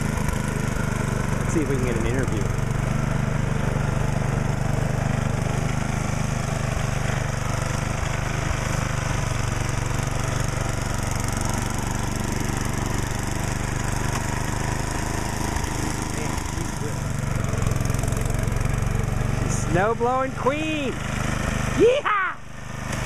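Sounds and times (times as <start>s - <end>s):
snow blower engine running: 0.0s - 23.0s.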